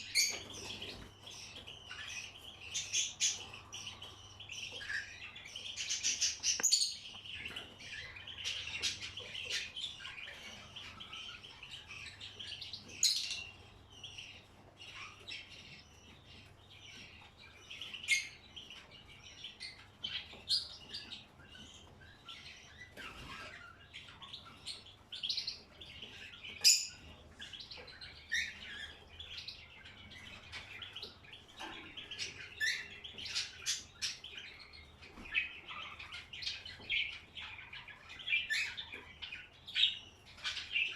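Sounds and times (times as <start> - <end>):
caged birds chirping: 0.0 - 40.9.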